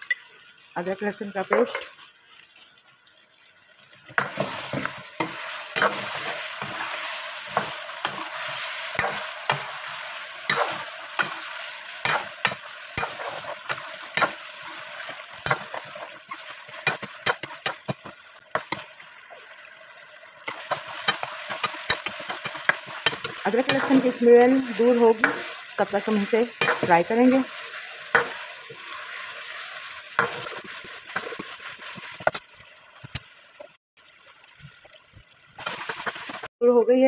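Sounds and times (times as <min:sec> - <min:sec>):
meat sizzling in hot oil: 0:00.0 - 0:36.5.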